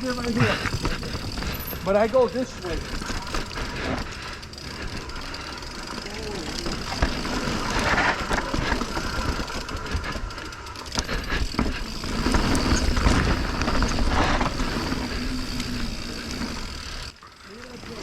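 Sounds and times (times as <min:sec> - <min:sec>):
bike knocks and rattles: 0:00.0 - 0:17.1
bike tyres over rock: 0:00.0 - 0:18.0.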